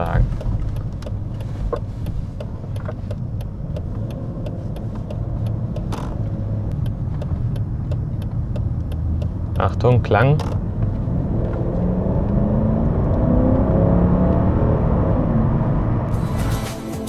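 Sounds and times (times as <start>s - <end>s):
car engine running at low revs: 0.0s - 16.6s.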